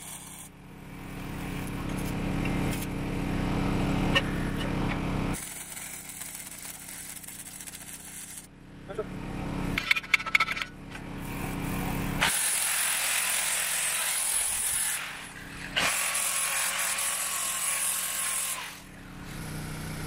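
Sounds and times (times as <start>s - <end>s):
angle grinder grinding weld: 0.0s - 8.5s, 9.6s - 20.0s.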